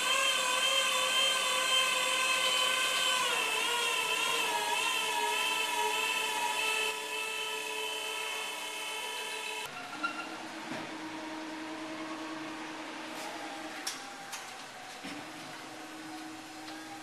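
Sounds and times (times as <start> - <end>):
hydraulic pump motor whine: 0.0 - 17.0.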